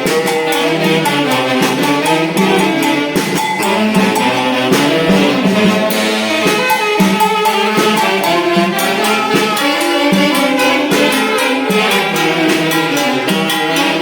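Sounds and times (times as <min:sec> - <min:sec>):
festival dance band music: 0:00.0 - 0:14.0
steady percussion beat: 0:00.0 - 0:14.0
wind instruments: 0:00.0 - 0:14.0.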